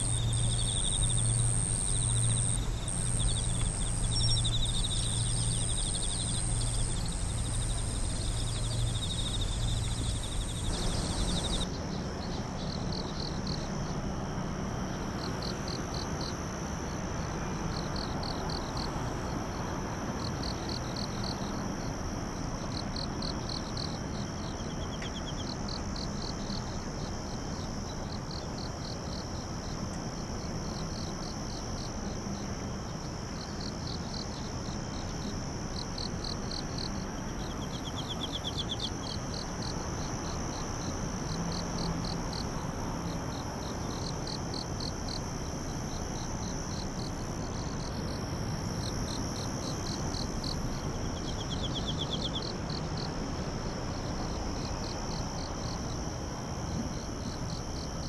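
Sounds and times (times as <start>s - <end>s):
pulsed insect chirps: 0.0s - 29.8s, 30.5s - 58.0s
insects ringing high-pitched: 0.0s - 58.0s.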